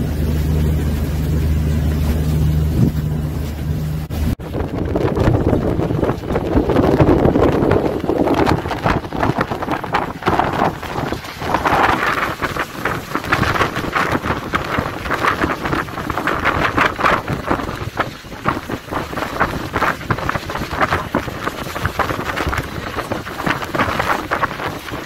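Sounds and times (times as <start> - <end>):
sea water rushing along hull: 0.0 - 25.0
wind buffeting microphone: 0.0 - 25.0.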